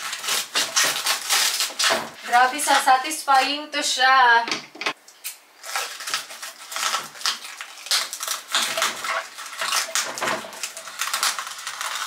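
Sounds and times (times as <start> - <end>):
scissors cutting plastic: 0.0 - 3.5, 5.2 - 12.0
plastic wrapping crinkling: 0.0 - 3.6, 5.2 - 12.0.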